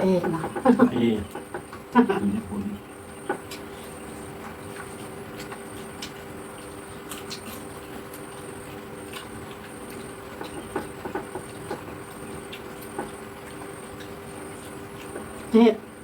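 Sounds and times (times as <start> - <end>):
eating clicks and knocks: 0.0 - 2.0, 3.2 - 3.8, 4.4 - 15.5
electrical hum: 0.0 - 16.0.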